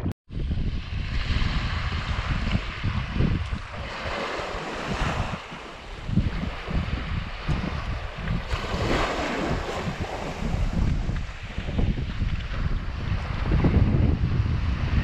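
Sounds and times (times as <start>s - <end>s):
wind buffeting microphone: 0.0s - 15.0s
sea waves washing: 0.4s - 15.0s.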